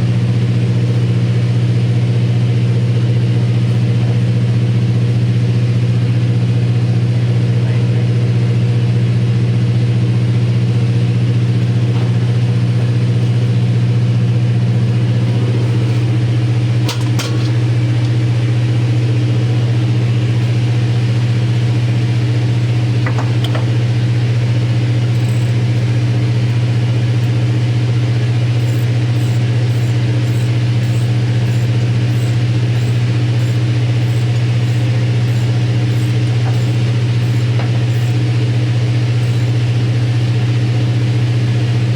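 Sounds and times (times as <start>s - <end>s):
large engine droning: 0.0s - 41.9s.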